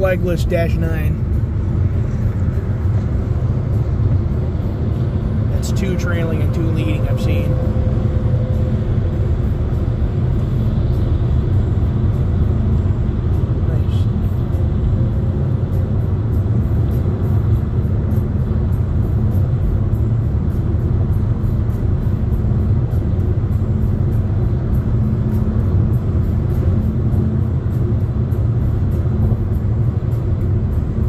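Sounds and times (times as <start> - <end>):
car tyre and engine rumble: 0.0 - 31.0
faint music with light beat: 0.0 - 31.0.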